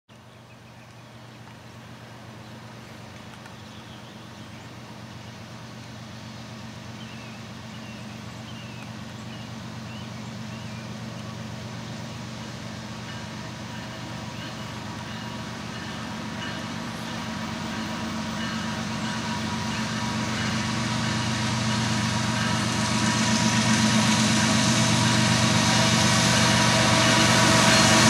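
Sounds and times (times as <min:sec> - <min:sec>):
diesel locomotive engine humming: 0:00.4 - 0:28.0.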